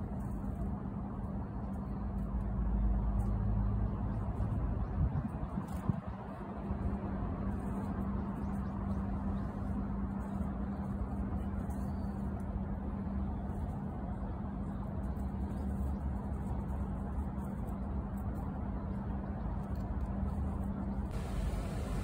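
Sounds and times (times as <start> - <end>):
constant low hum: 0.0 - 22.0
motor traffic rumble: 0.0 - 22.0.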